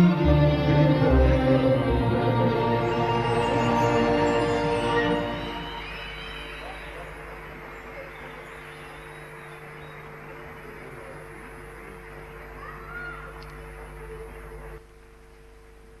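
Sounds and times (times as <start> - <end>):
faint low hum with hiss: 0.0 - 16.0.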